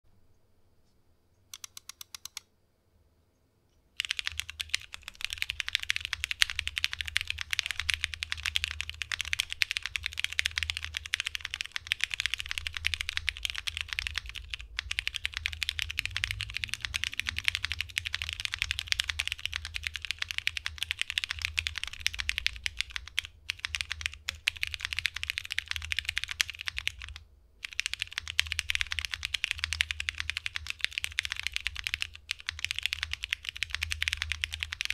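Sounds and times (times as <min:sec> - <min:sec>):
mechanical keyboard typing: 0:01.5 - 0:02.4, 0:04.0 - 0:34.9.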